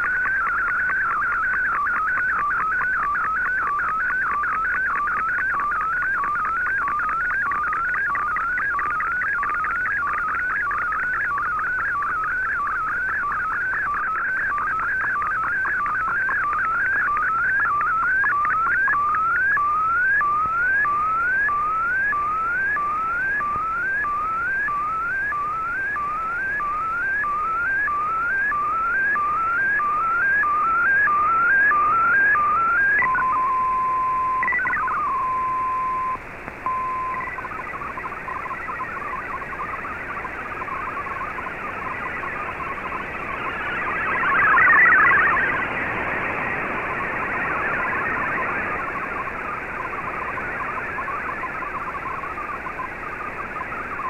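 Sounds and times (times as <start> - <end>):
repeating rising radio chirps: 0.0 - 54.0
steady radio tone: 0.0 - 54.0
warbling data signal: 0.0 - 54.0.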